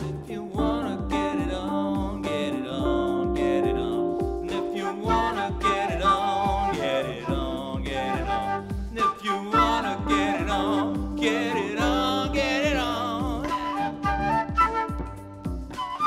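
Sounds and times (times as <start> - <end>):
background music with low beat: 0.0 - 16.0.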